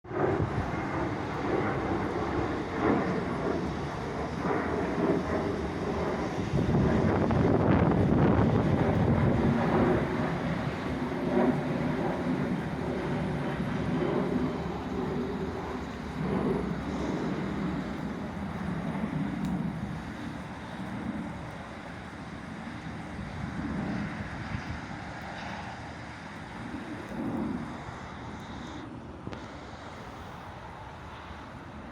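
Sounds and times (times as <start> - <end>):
jet airliner engines rumbling: 0.1 - 31.9.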